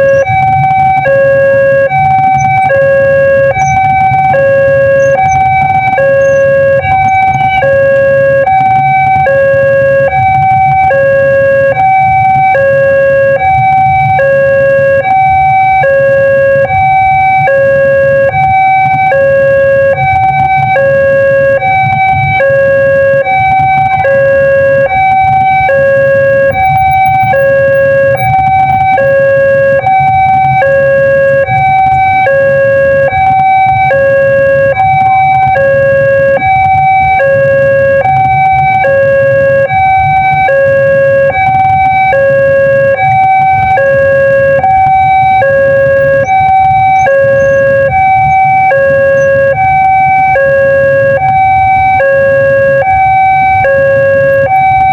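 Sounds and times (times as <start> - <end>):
level-crossing warning siren: 0.0 - 54.9.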